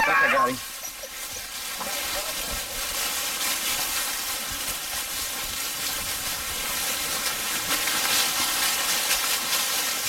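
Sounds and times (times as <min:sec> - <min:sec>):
dry leaves rustling and crackling: 0:00.0 - 0:10.0.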